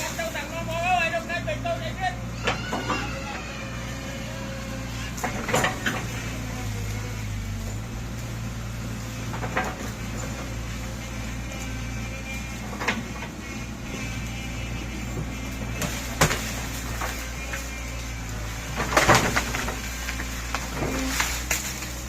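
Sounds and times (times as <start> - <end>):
excavator engine humming: 0.0 - 22.0.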